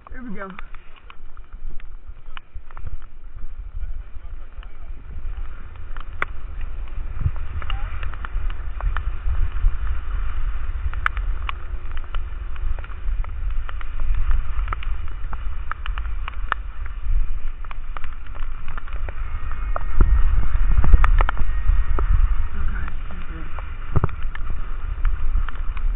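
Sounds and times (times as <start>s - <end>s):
skis sliding over wet snow: 0.0s - 25.9s
wind rumbling on microphone: 0.0s - 25.9s.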